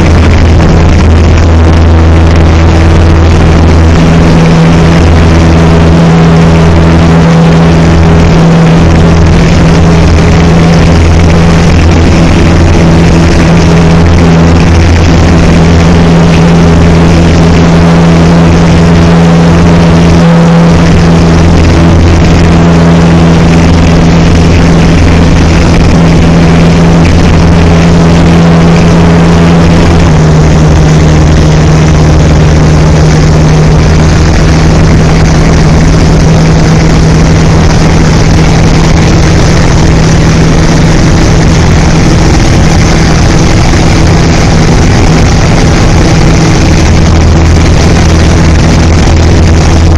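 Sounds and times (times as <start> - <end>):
propeller aircraft engine drone: 0.0 - 49.9.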